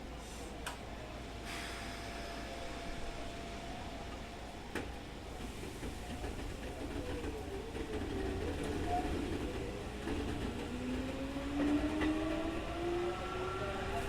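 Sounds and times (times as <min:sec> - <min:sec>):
electric train rumble: 0:01.3 - 0:14.0.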